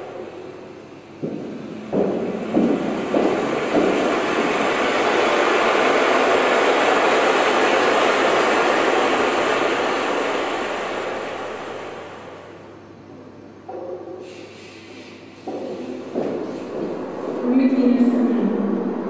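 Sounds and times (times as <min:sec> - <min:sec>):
loud rushing noise: 0:00.0 - 0:12.7, 0:14.2 - 0:19.0.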